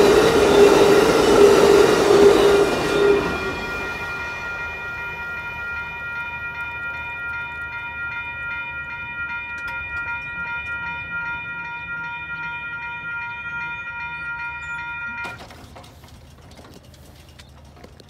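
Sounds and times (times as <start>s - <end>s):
railroad crossing bell ringing: 0.0s - 16.3s.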